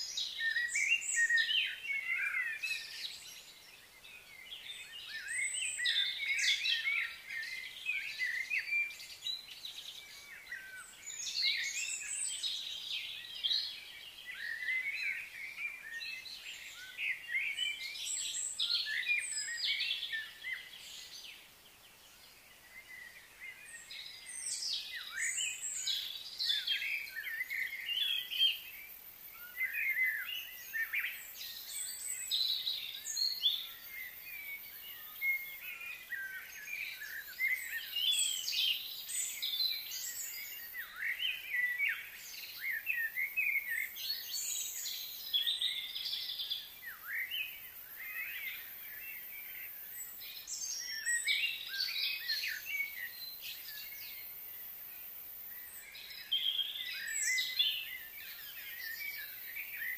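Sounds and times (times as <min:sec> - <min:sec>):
birds chirping chorus: 0:00.0 - 0:59.9.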